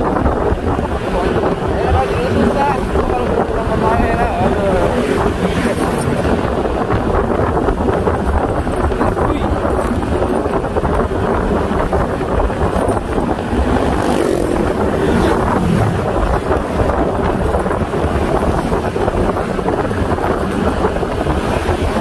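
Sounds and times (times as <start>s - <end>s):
scooter engine running: 0.0s - 22.0s
wind buffeting microphone: 0.0s - 22.0s.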